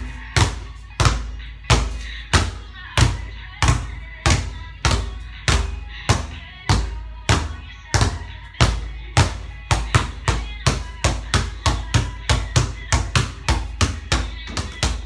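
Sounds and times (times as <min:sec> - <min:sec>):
basketball bouncing on court: 0:00.0 - 0:15.0.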